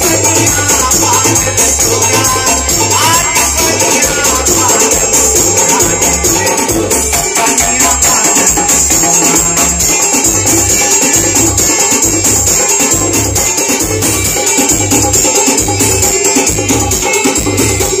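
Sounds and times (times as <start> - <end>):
fast ticking percussion: 0.0 - 18.0
keyboards: 0.0 - 18.0
live band through speakers: 0.0 - 18.0.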